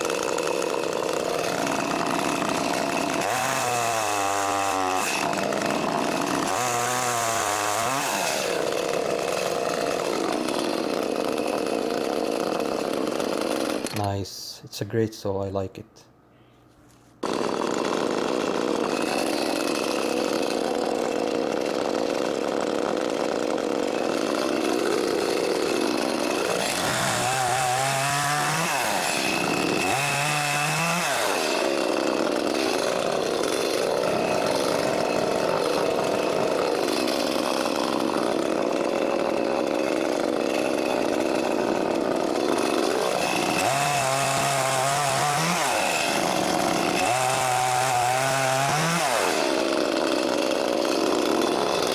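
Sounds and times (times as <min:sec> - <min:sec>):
chainsaw cutting wood: 0:00.0 - 0:14.2, 0:17.2 - 0:51.9.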